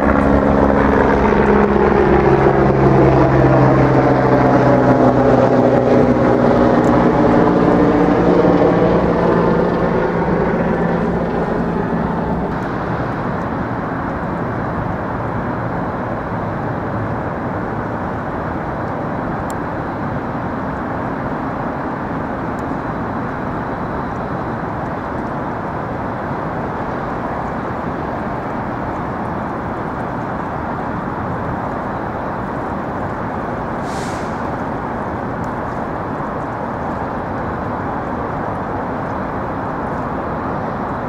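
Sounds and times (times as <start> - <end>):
distant traffic noise: 0.0 - 41.0.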